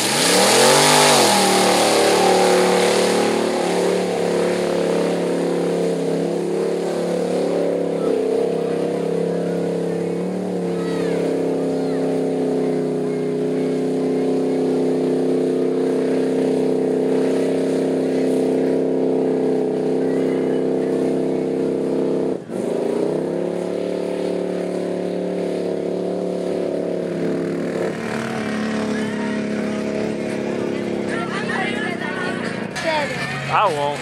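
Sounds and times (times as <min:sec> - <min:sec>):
truck engine revving high: 0:00.0 - 0:34.0
wheels spinning in mud: 0:00.0 - 0:34.0.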